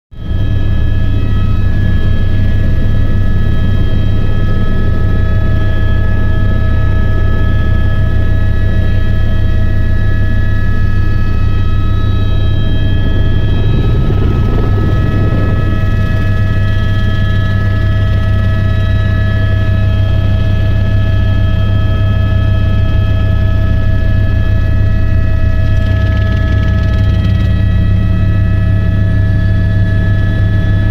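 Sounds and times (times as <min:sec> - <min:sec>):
helicopter rotor low drone: 0:00.2 - 0:30.9
high-pitched turbine whine: 0:00.2 - 0:30.9.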